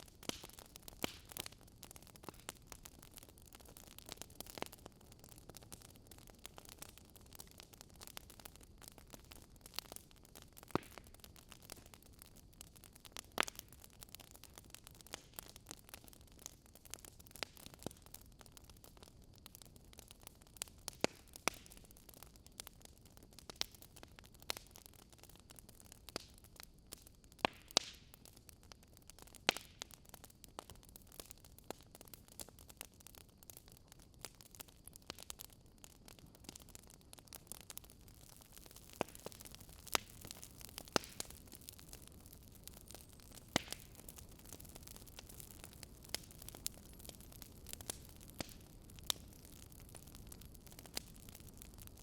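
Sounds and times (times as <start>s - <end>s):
faint steady hiss: 0.0s - 52.0s
fire crackling and popping: 0.0s - 52.0s.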